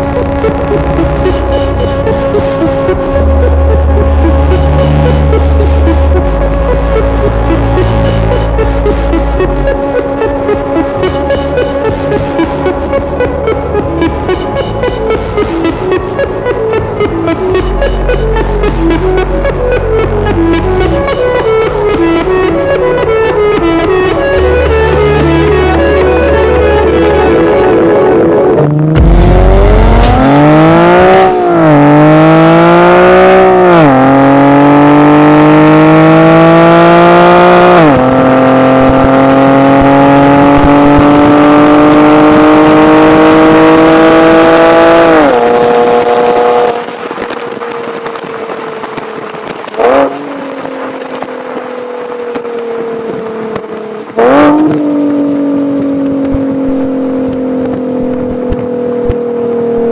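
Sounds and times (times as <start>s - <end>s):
car engine accelerating through gears: 0.0s - 59.9s.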